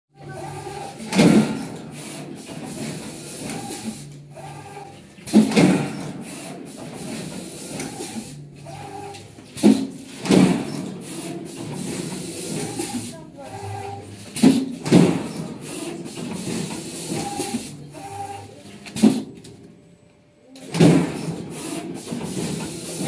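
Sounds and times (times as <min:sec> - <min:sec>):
machine hum: 0:00.2 - 0:23.0
loud mechanical clunks: 0:00.6 - 0:04.0, 0:05.2 - 0:18.1, 0:18.9 - 0:19.6, 0:20.6 - 0:23.0.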